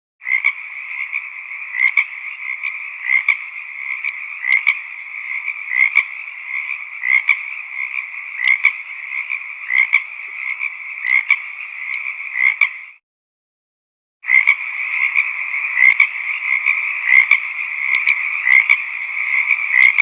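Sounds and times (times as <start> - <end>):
frogs croaking chorus: 0.2 - 13.0, 14.2 - 20.0
loud frog croaks: 0.2 - 13.0, 14.2 - 20.0.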